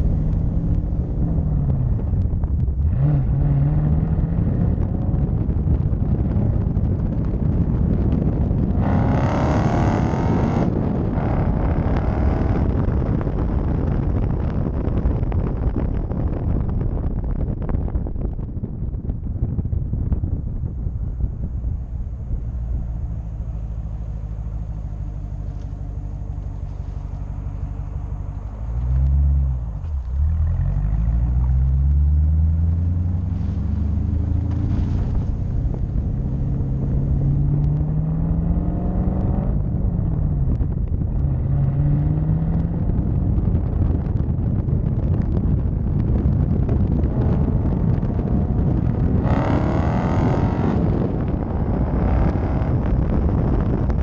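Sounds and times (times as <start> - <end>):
car engine revving and rumbling: 0.0 - 54.0.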